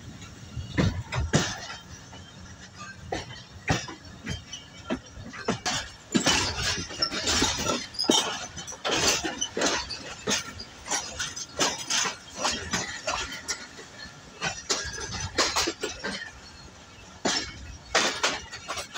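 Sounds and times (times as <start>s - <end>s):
train wheels clanking over rail joints: 0.0s - 18.9s.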